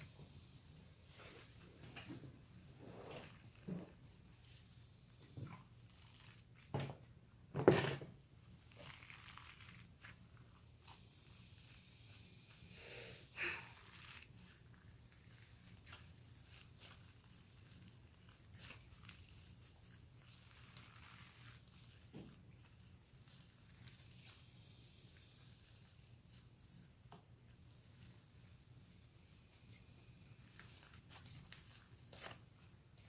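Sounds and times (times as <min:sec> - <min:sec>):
slime crackling and squishing: 0:02.5 - 0:06.8, 0:08.2 - 0:33.0.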